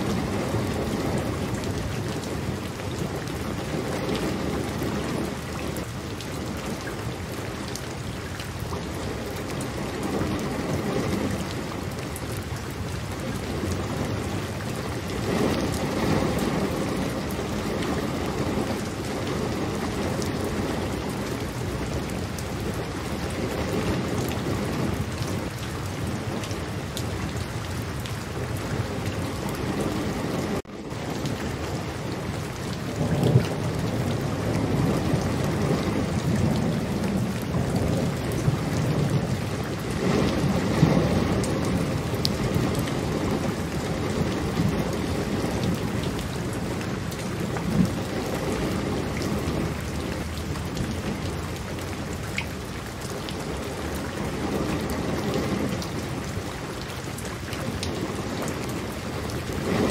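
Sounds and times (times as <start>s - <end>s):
low rumble of thunder: 0.0s - 59.9s
steady rain falling: 0.0s - 59.9s.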